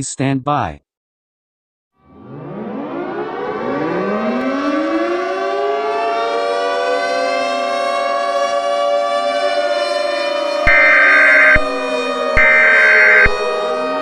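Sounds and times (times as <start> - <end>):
warning siren winding up: 2.0 - 14.0.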